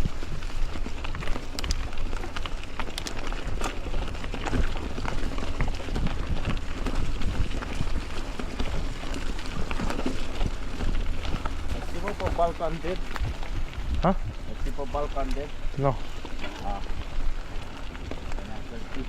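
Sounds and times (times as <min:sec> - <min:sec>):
bicycle tyre noise: 0:00.0 - 0:19.0
bike clicks and rattles: 0:00.0 - 0:19.0
wind rumble on microphone: 0:00.0 - 0:19.0.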